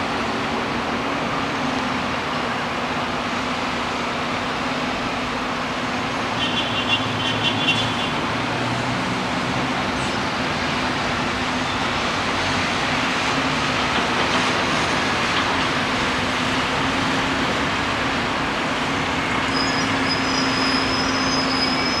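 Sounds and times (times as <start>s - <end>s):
city traffic: 0.0s - 22.0s.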